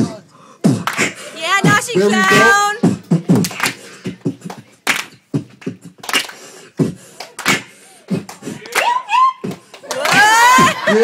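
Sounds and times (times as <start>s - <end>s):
beatboxing into a microphone: 0.0s - 11.0s.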